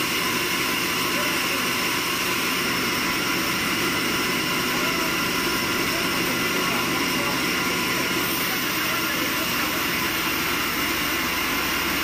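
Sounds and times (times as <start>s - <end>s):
band saw cutting timber: 0.0s - 12.0s.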